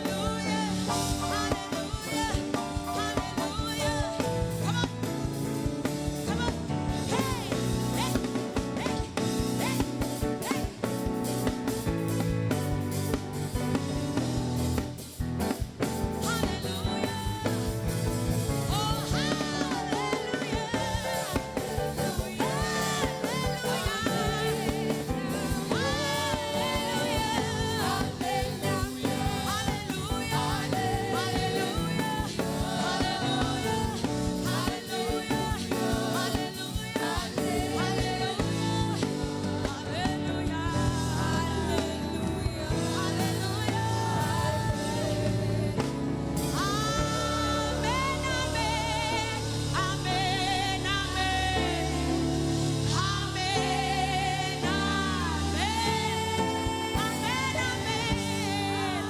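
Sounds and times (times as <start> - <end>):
band playing with bass: 0.0 - 59.0
voices singing gospel song: 0.0 - 59.0.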